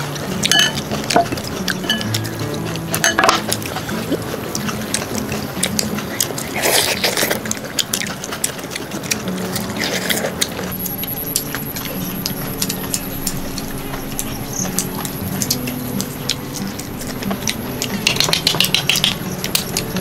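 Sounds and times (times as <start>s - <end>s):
dishes and utensils clinking: 0.0s - 20.0s
liquid sounds: 0.0s - 20.0s
low background melody: 0.0s - 20.0s.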